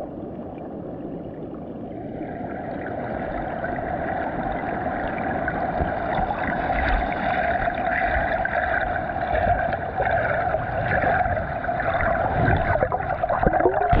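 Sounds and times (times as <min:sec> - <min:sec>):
muffled underwater rushing: 0:00.0 - 0:14.0.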